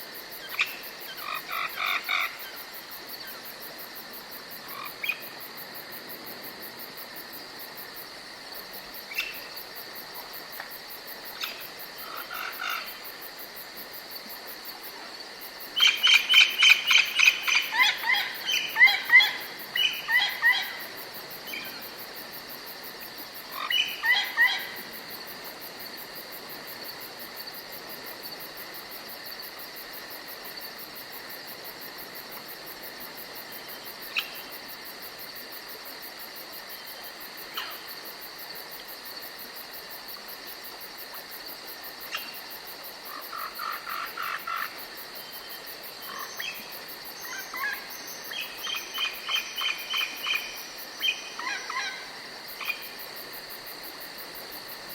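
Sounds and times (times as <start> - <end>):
high insect trill: 0.0 - 54.9.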